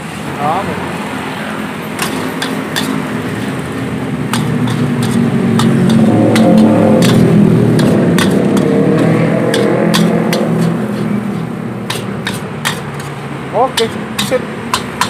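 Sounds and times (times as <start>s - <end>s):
gas burner rumbling: 0.0s - 15.0s
metal spatula clanking on wok: 1.9s - 15.0s.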